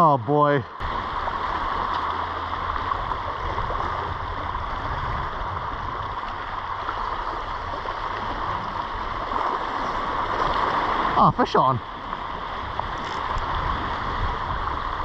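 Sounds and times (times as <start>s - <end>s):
sea rushing on rocky shore: 0.0s - 15.0s
low uneven rumble: 0.4s - 15.0s.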